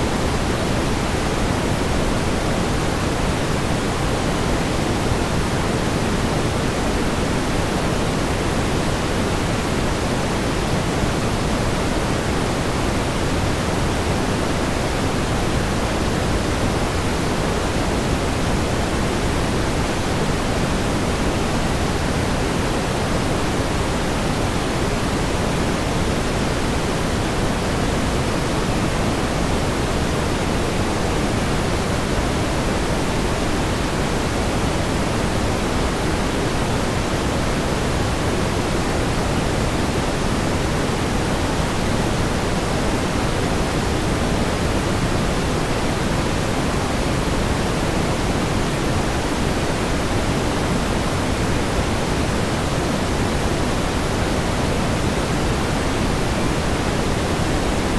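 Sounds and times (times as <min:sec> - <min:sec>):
pink noise hiss: 0:00.0 - 0:57.9.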